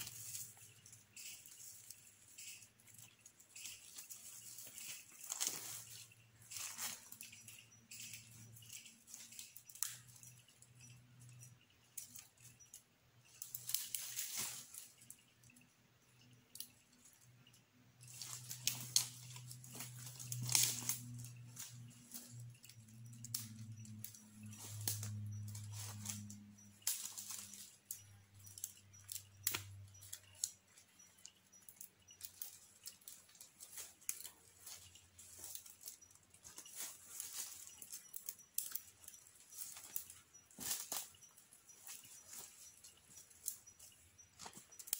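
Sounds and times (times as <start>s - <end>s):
dry leaves and twigs crackling: 0.0s - 44.9s.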